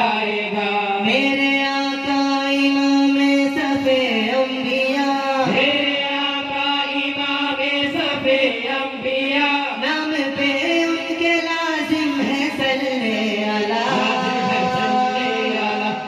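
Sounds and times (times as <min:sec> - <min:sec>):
men chanting devotional song: 0:00.0 - 0:16.0.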